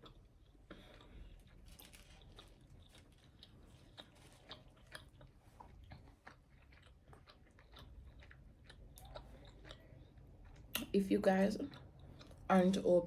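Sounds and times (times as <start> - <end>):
person chewing: 0.0 - 10.9, 11.6 - 12.5.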